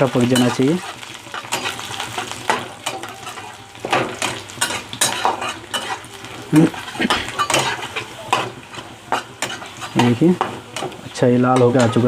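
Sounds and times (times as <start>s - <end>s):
food sizzling in hot oil: 0.0s - 12.0s
metal spatula scraping pan: 0.2s - 12.0s.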